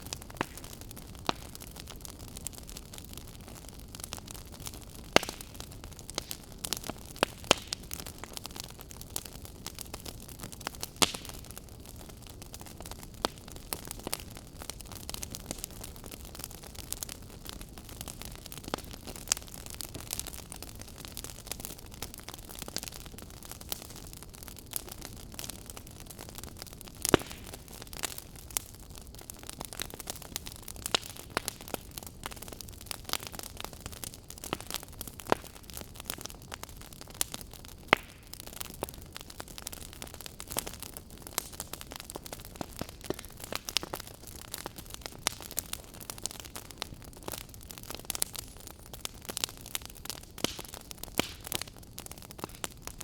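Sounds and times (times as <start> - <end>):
fire crackling: 0.0 - 53.0.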